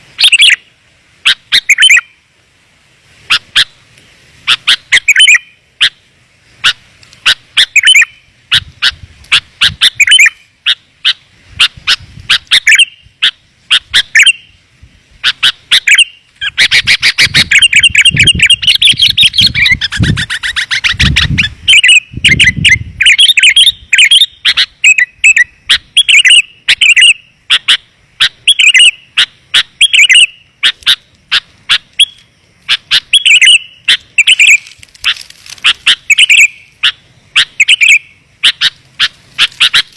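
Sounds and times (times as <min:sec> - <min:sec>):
bird chirping and chattering: 0:00.2 - 0:02.1, 0:04.5 - 0:06.0, 0:06.6 - 0:14.6, 0:15.2 - 0:39.9.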